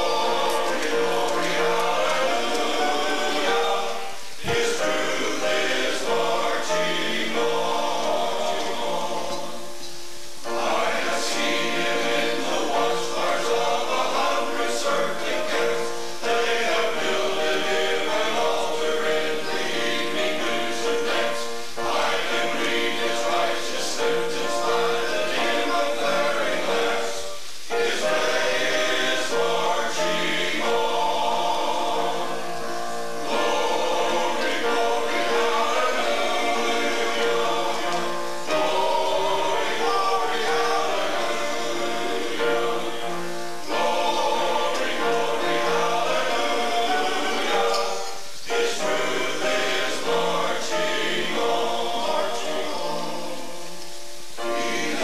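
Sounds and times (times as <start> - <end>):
men's choir singing: 0.0 - 55.0.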